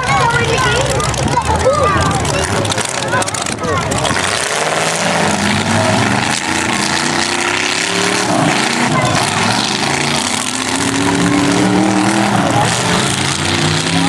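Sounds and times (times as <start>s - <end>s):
car engines revving hard: 0.0s - 14.0s
noisy din: 0.0s - 14.0s.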